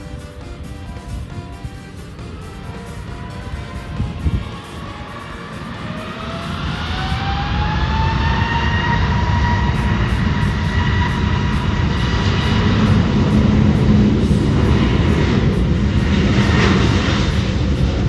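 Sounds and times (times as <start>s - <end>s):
jet engine whine: 0.0s - 18.0s
jet engines rumbling: 0.0s - 18.0s.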